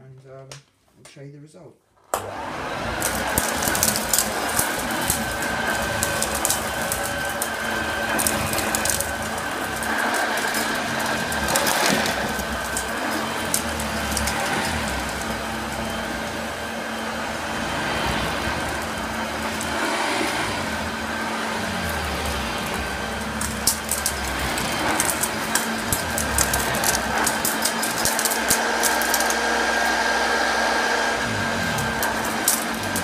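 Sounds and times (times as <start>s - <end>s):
grit rattling through vacuum: 2.2s - 33.0s
vacuum cleaner humming: 2.2s - 33.0s.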